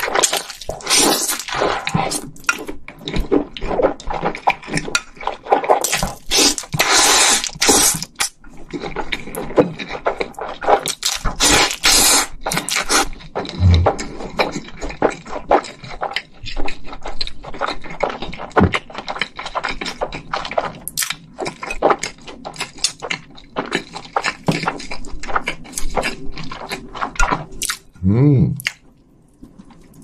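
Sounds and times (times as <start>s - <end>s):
mouth clicks and smacks chewing: 0.0s - 30.0s.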